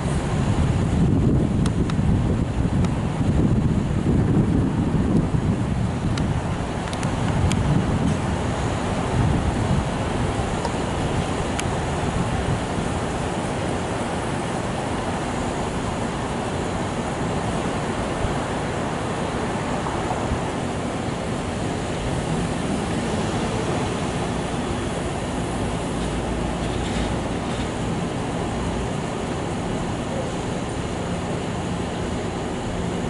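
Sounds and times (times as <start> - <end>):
city traffic noise: 0.0 - 33.0
subway train rumbling on tracks: 0.0 - 33.0.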